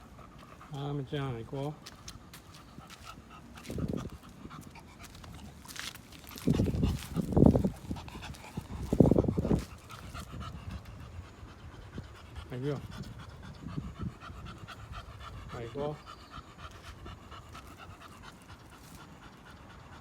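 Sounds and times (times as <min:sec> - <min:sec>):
dog panting heavily: 0:00.0 - 0:20.0
dog rasping breaths: 0:00.0 - 0:20.0.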